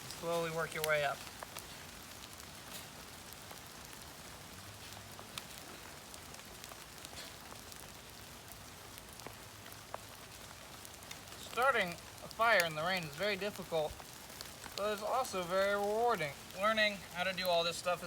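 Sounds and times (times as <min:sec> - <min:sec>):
rain drops tapping on surfaces: 0:00.0 - 0:18.0.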